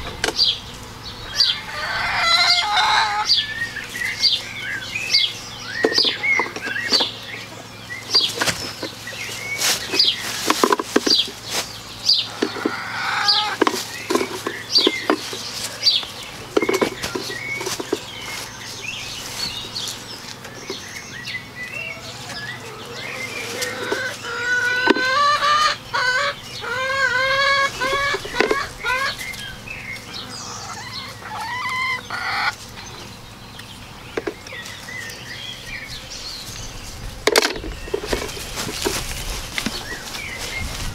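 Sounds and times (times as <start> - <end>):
hens clucking: 0.0 - 40.9.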